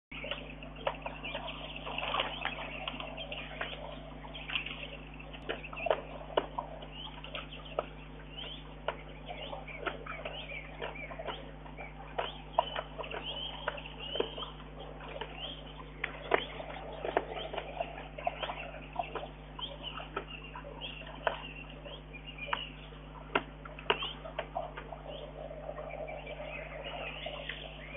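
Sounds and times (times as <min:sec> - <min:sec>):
low electrical hum: 0:00.1 - 0:27.9
small birds chirping: 0:00.1 - 0:27.9.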